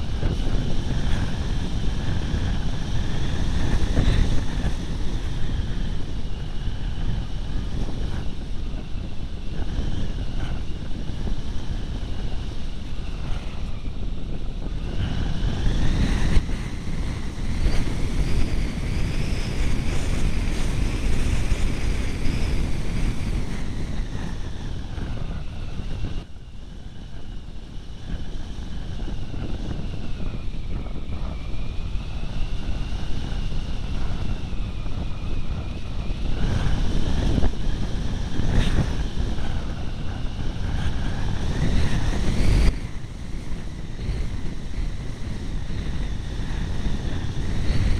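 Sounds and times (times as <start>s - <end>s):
airflow rushing over microphone: 0.0s - 47.9s
faint high whine: 0.0s - 47.9s.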